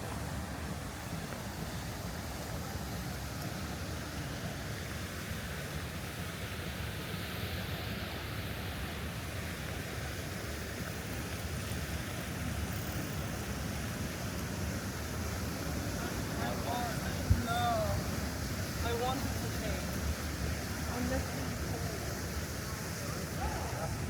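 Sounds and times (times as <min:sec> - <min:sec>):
street ambience rushing noise: 0:00.0 - 0:24.0.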